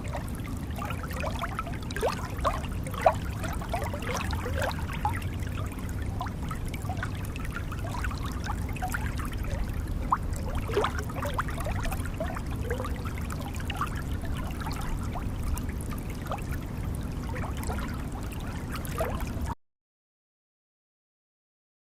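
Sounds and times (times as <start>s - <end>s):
steady low rumble: 0.0s - 19.5s
water gurgling and trickling: 0.0s - 19.6s.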